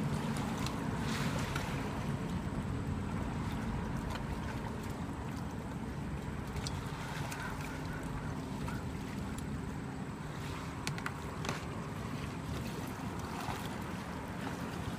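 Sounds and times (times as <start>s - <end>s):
faint water splashes: 0.0s - 14.9s
lapping lake water: 0.0s - 14.9s.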